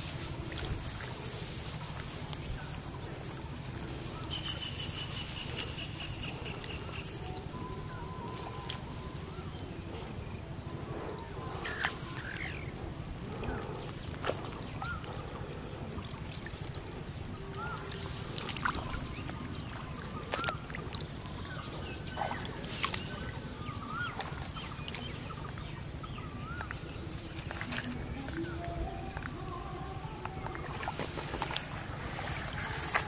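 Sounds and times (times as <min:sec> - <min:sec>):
water splashing and sloshing: 0:00.0 - 0:33.0.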